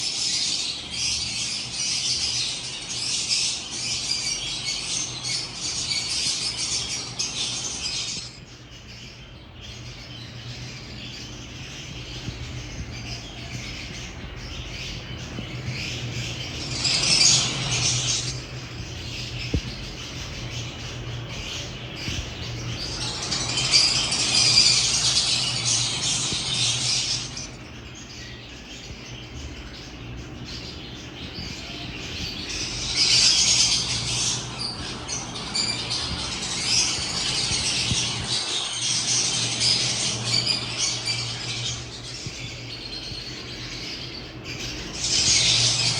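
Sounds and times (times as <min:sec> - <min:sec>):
lovebirds chattering and squawking: 0:00.0 - 0:45.9.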